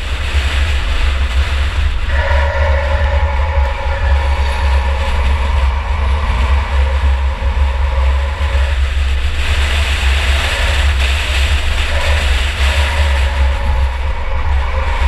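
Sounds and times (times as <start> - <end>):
car engine droning: 0.0 - 15.0
road noise: 0.0 - 15.0.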